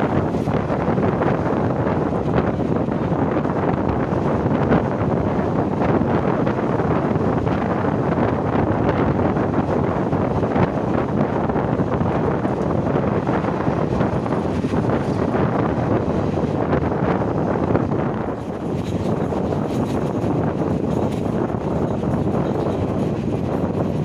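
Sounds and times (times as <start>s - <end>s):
train rumbling on track: 0.0s - 24.0s
wind buffeting microphone: 0.0s - 24.0s.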